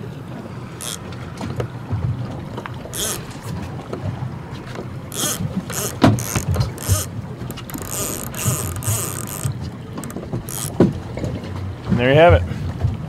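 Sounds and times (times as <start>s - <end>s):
outboard motors rumbling: 0.0s - 13.0s
wind: 0.0s - 13.0s.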